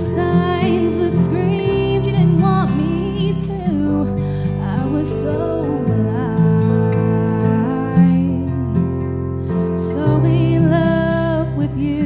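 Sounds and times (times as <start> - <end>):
acoustic guitar chords: 0.0 - 12.0
woman singing: 0.0 - 12.0.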